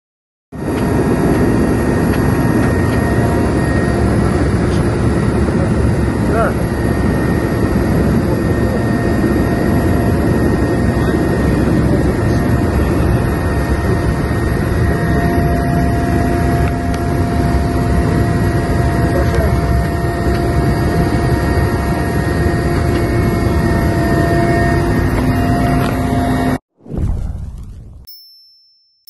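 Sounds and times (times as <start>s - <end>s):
helicopter cabin rumble and whine: 0.6s - 26.6s.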